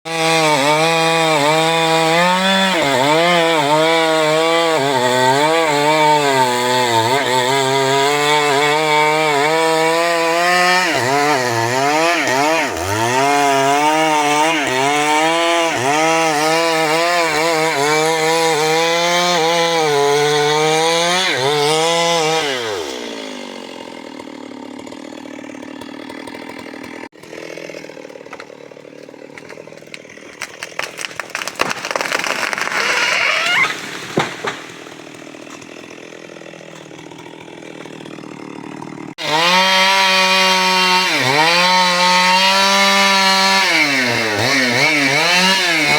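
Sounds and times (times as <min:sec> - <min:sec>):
chainsaw cutting wood: 0:00.1 - 0:45.9.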